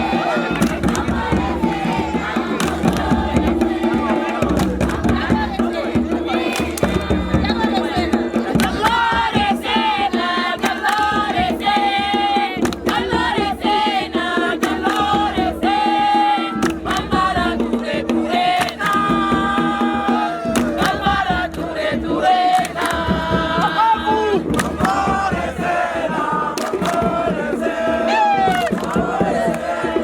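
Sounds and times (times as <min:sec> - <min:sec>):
sharp percussive hits: 0:00.0 - 0:11.9, 0:12.6 - 0:15.8, 0:16.5 - 0:23.8, 0:24.4 - 0:30.0
group singing call and response: 0:00.0 - 0:30.0.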